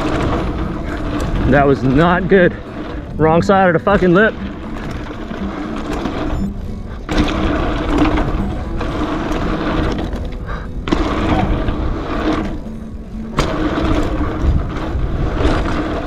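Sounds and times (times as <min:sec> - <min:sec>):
bike tyres rolling over dirt: 0:00.0 - 0:16.0
wind on microphone: 0:00.0 - 0:16.0.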